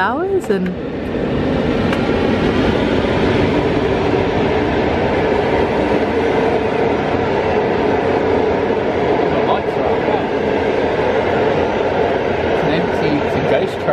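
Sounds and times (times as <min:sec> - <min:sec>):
train wheels rumbling on rails: 0:00.0 - 0:13.9.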